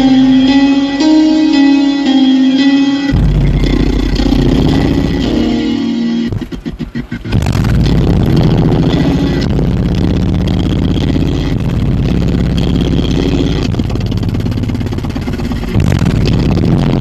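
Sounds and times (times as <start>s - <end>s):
loud bass-heavy music from subwoofers: 0.0s - 17.0s.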